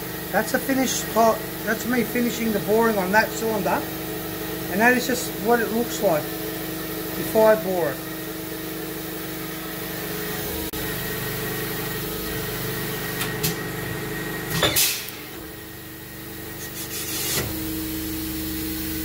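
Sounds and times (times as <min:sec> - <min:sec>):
boring machine motor hum: 0:00.0 - 0:19.0.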